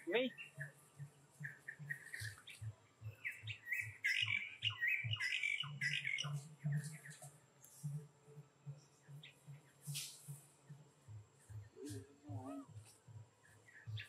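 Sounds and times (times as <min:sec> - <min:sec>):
low soft repeating beat: 0:00.0 - 0:14.0.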